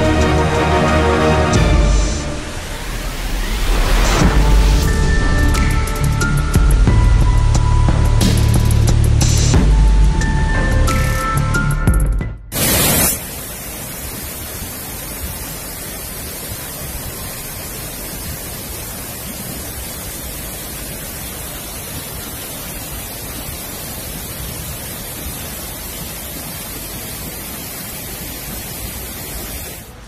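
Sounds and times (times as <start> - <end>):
waterfall rushing: 0.0 - 6.6, 12.6 - 30.0.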